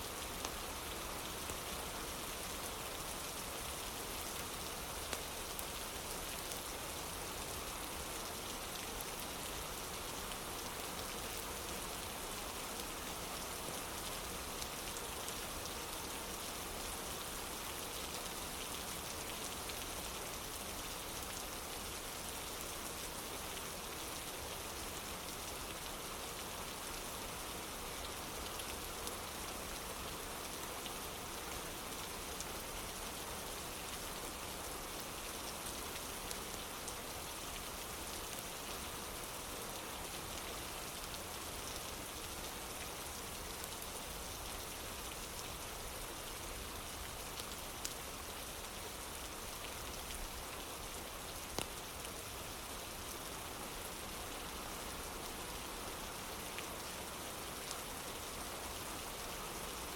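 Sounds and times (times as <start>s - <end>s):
rain on a wooden porch: 0.0s - 59.9s.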